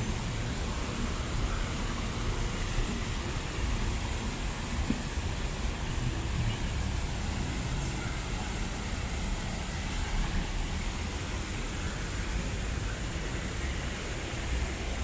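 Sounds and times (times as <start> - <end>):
fountain water jets splashing: 0.0 - 15.0
low rumble of city traffic: 0.0 - 15.0.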